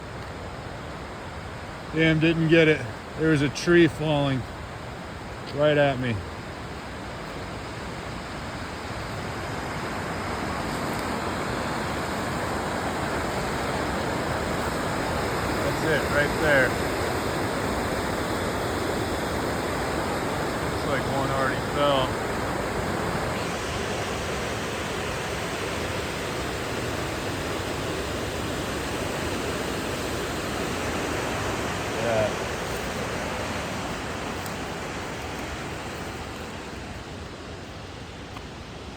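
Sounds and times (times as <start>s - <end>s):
flooded river rushing: 0.0s - 38.9s.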